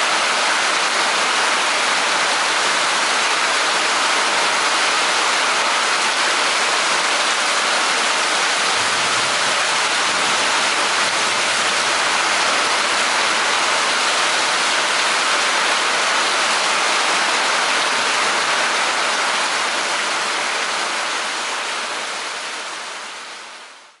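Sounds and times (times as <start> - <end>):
rain falling steadily: 0.0 - 24.0.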